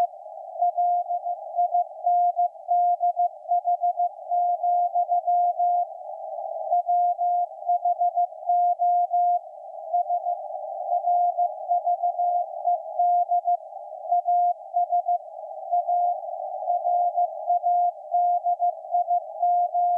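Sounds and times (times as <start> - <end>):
receiver hiss: 0.0 - 19.9.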